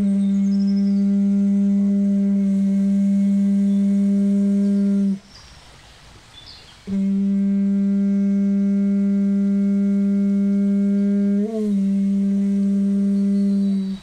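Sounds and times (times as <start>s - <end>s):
conch shell horn blowing: 0.0s - 5.2s, 6.8s - 14.0s.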